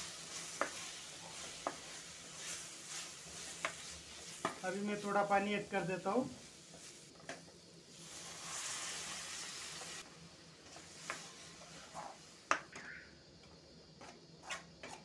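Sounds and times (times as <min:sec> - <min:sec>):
water sizzling in hot pan: 0:00.0 - 0:12.7.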